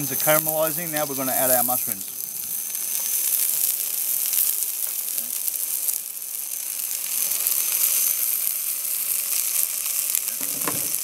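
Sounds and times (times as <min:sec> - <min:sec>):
mushrooms sizzling in oil: 0:00.0 - 0:11.0.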